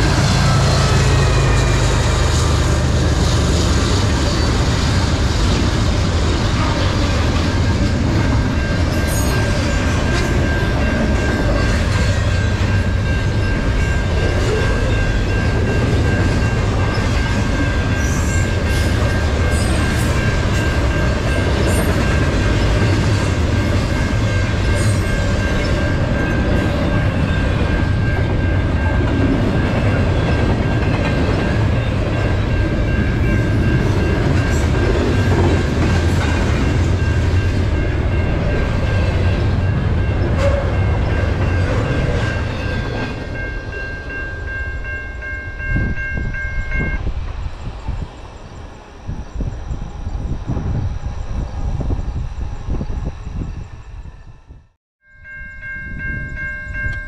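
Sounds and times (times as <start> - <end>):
crossing bell ringing: 0.0 - 47.1, 55.0 - 57.0
train rumbling with wheel clatter: 0.0 - 57.0.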